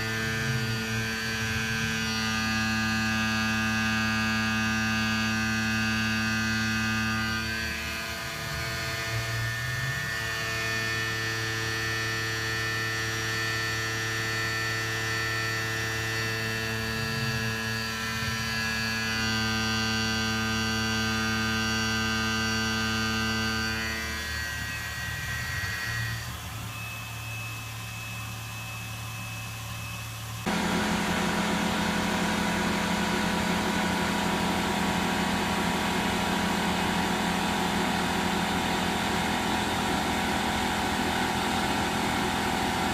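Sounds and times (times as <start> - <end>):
milling machine whine: 0.0 - 42.9.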